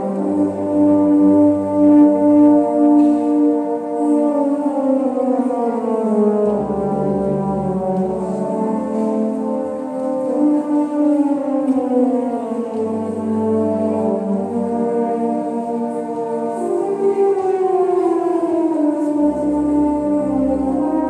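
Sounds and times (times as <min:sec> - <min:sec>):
brass band funeral march: 0:00.0 - 0:21.0.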